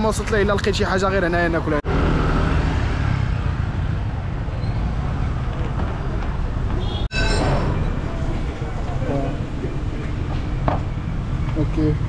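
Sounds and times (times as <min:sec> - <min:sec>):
low rumble of passing vehicles: 0:00.0 - 0:12.0.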